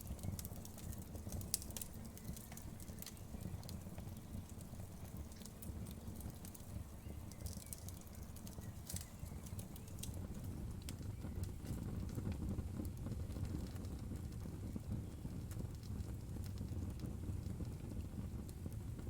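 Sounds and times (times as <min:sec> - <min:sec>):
sharp pops of burning wood: 0:00.0 - 0:18.7
wood fire crackling: 0:00.0 - 0:19.0.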